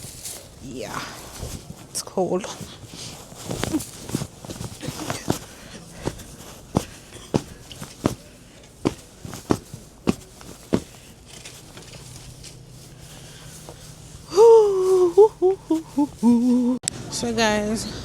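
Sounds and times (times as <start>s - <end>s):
footsteps: 0.0s - 16.8s.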